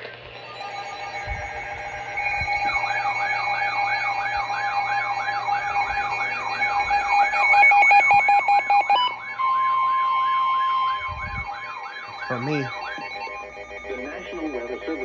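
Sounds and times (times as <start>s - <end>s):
steady alarm tone: 0.0s - 15.0s
warbling siren tone: 0.0s - 15.0s
screechy data beeps: 0.3s - 15.0s.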